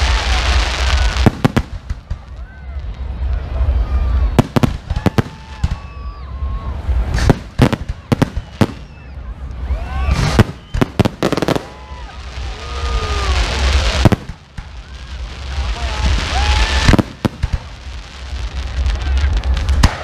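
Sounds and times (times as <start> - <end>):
crackling hiss of fireworks: 0.0 - 20.0.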